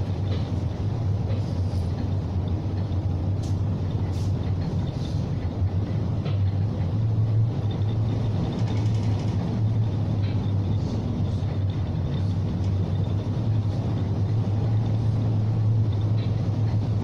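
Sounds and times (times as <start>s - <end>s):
ship engine hum: 0.0s - 17.0s
wind: 0.0s - 17.0s.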